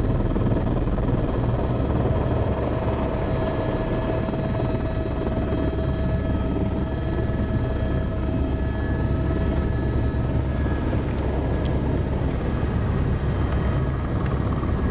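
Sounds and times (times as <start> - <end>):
helicopter rotor beat: 0.0 - 14.9
helicopter turbine whine: 0.0 - 14.9.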